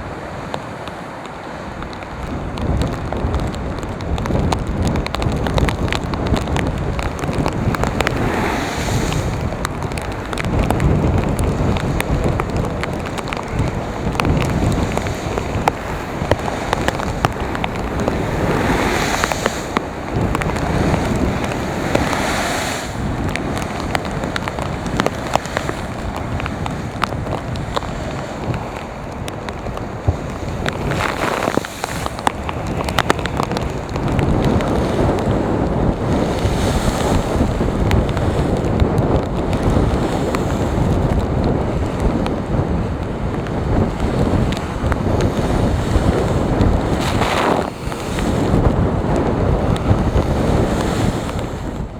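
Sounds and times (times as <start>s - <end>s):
steady surf: 0.0s - 51.9s
waves crashing against seawall: 0.0s - 51.9s
wind buffeting microphone: 0.0s - 51.9s.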